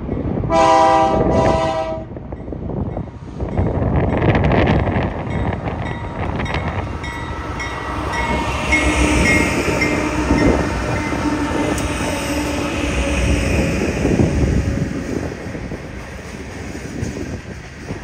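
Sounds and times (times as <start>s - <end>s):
diesel locomotives rumbling: 0.0s - 18.0s.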